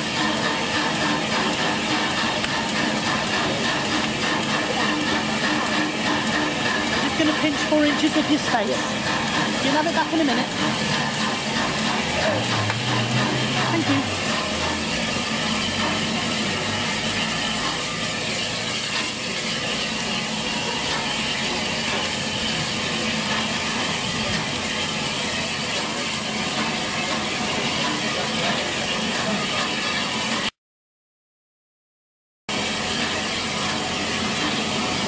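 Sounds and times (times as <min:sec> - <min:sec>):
steam locomotive hissing: 0:00.0 - 0:30.5, 0:32.5 - 0:35.0.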